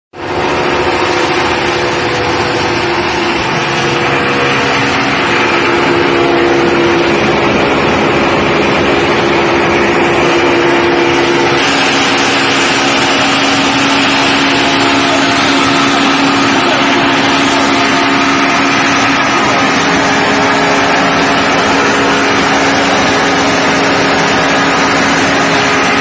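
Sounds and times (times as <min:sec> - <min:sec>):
milling machine running: 0:00.2 - 0:26.0.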